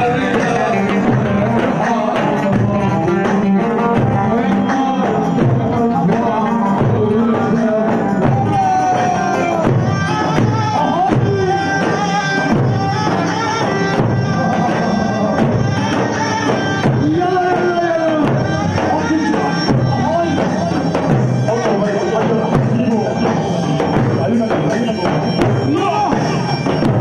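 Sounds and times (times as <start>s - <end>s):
driving percussion beat: 0.0s - 27.0s
party music with melodic lead: 0.0s - 27.0s.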